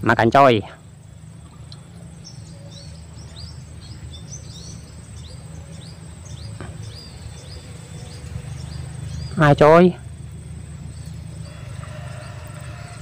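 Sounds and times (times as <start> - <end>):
faint high insect buzz: 0.0 - 13.0
low outdoor rumble: 0.0 - 13.0
small birds chirping: 0.0 - 13.0.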